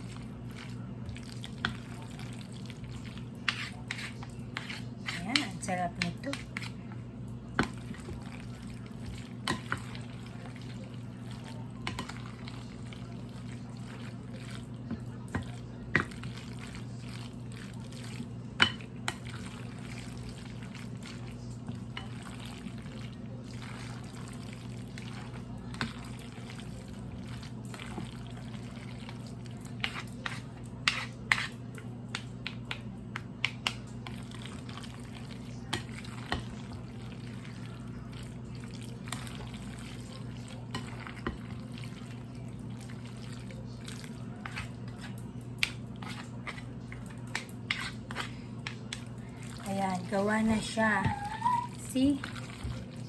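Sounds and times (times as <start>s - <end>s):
wet squelching of stirred salad: 0.0s - 53.0s.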